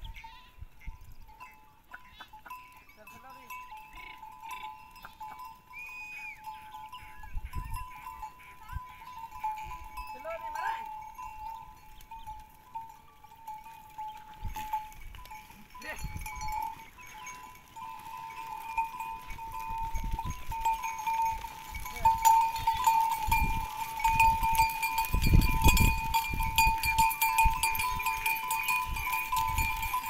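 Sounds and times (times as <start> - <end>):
goat bells ringing: 0.0 - 30.0.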